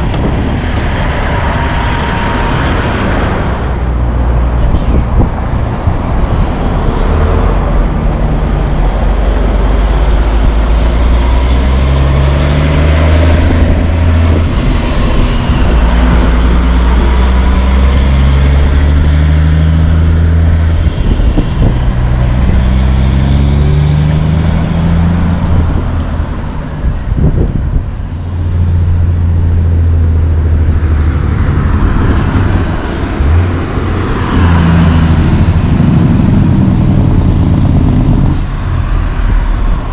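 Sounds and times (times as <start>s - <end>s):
diesel truck engines shifting gears: 0.0s - 39.9s
road traffic: 0.0s - 39.9s.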